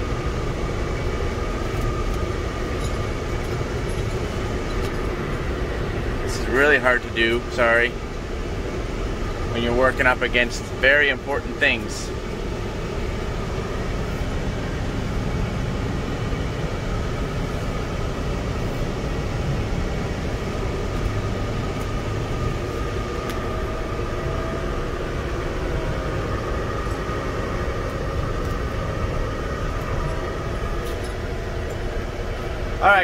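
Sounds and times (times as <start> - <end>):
faint high whine: 0.0 - 33.0
tractor engine rumbling: 0.0 - 33.0.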